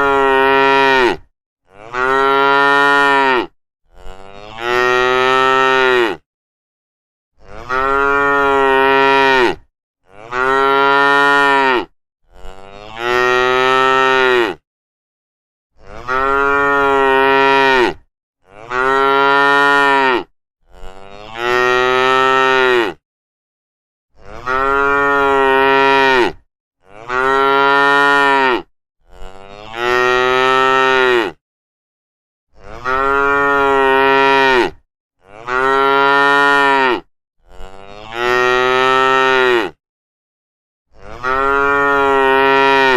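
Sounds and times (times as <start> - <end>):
cow mooing: 0.0 - 6.2, 7.4 - 14.6, 15.8 - 23.0, 24.2 - 31.4, 32.6 - 39.8, 40.9 - 42.9.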